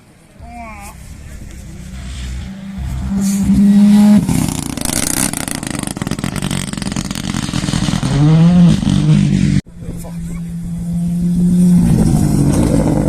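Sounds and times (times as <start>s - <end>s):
exhaust crackles: 0.2s - 13.0s
rally car engine revving: 0.4s - 13.0s.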